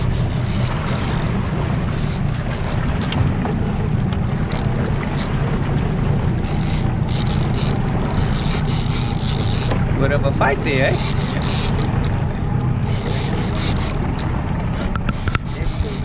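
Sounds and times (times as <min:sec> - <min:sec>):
outboard motor humming: 0:00.0 - 0:16.0
water rushing past hull: 0:00.0 - 0:16.0.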